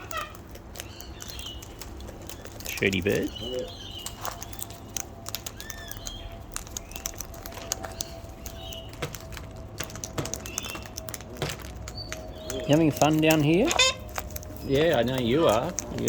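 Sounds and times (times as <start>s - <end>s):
bird chirps: 0.0s - 11.2s, 11.8s - 16.0s
birds clicking and tapping: 0.0s - 16.0s.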